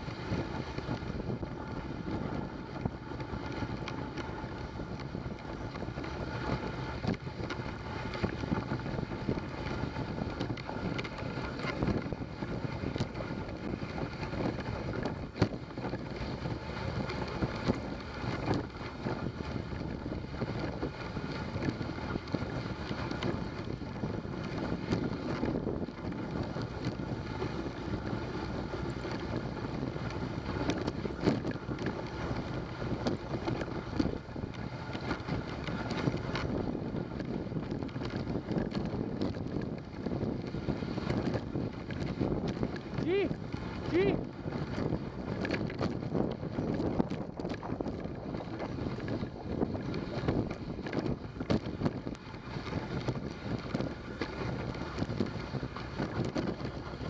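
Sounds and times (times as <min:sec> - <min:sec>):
sled runners hissing over snow: 0:00.0 - 0:57.0
wind on microphone: 0:00.0 - 0:57.0.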